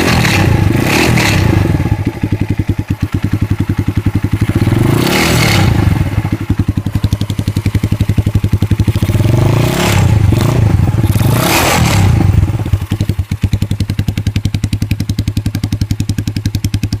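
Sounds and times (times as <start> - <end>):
motorcycle engine idling with rattle: 0.0 - 17.0.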